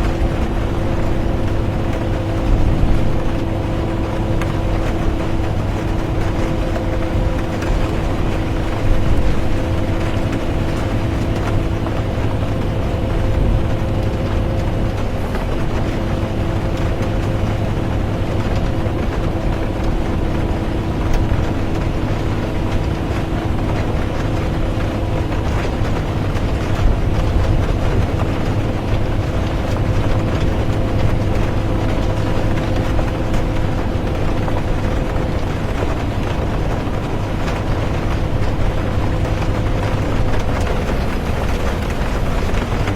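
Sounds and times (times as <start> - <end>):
bus engine drone: 0.0 - 42.9
low road rumble: 0.0 - 42.9
rain hissing: 0.0 - 42.9.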